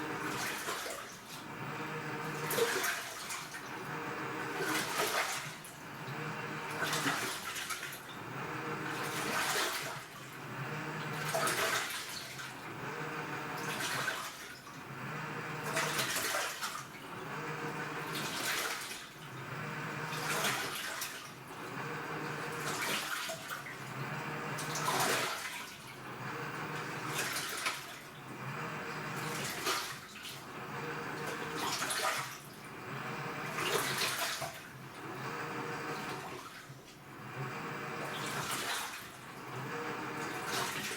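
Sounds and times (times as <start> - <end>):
washing machine motor humming: 0.0 - 40.9
water swishing in drum: 0.0 - 40.9.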